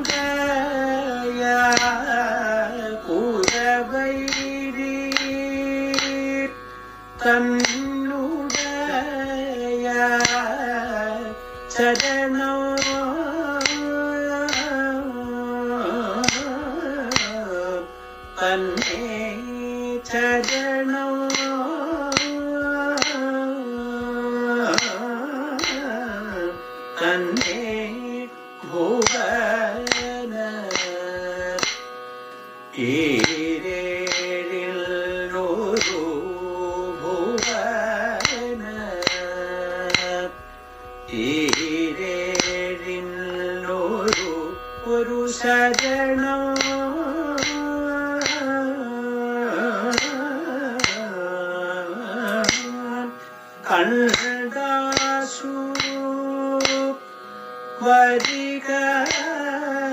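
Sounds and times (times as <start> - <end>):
percussion strikes: 0.0 - 59.9
person singing long gliding notes: 0.0 - 59.9.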